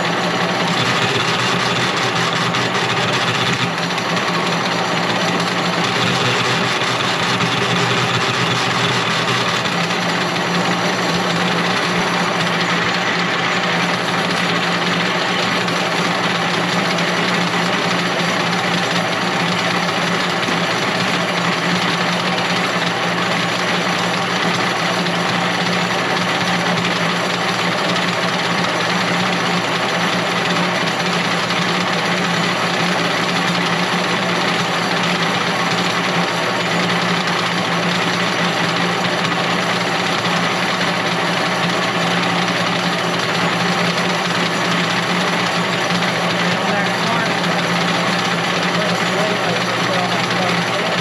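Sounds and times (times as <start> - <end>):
machine humming and rattling: 0.0 - 51.0.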